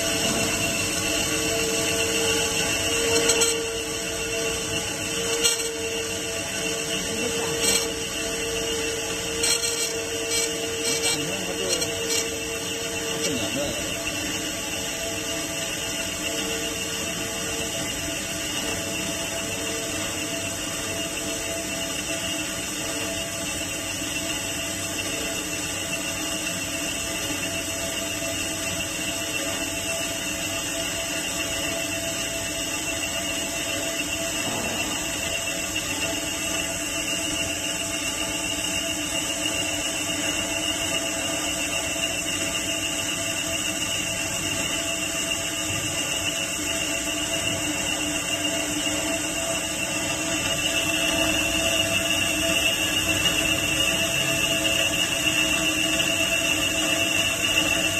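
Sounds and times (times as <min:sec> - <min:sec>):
band saw running: 0:00.0 - 0:57.9.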